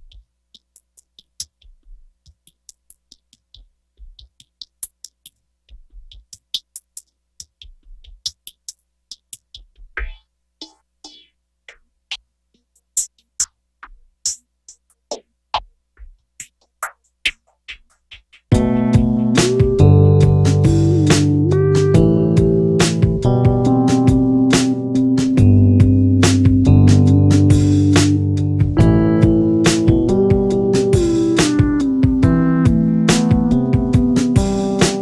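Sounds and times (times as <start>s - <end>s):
drum machine clicks and thumps: 0.0s - 35.0s.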